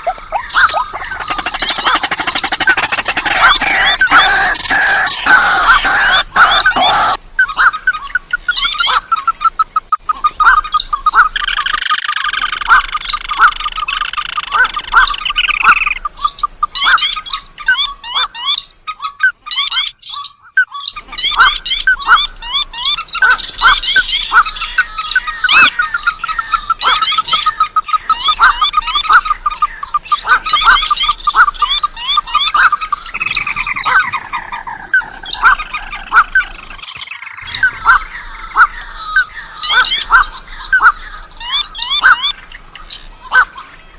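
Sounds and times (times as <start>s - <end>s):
drawn-out buzzy bird call: 0.0s - 43.8s
rapid repeated bird call notes: 0.0s - 43.9s.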